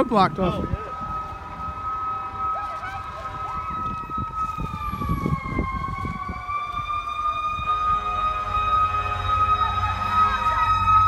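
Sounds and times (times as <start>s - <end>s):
emergency vehicle siren: 0.0s - 11.0s.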